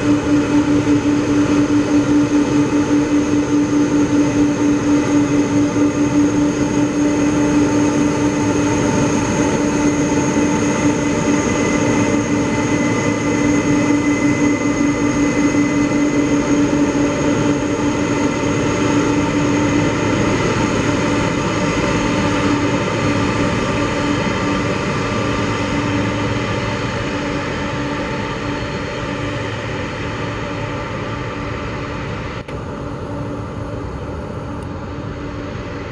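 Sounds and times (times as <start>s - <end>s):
jet engines rumbling and whining: 0.0s - 35.9s.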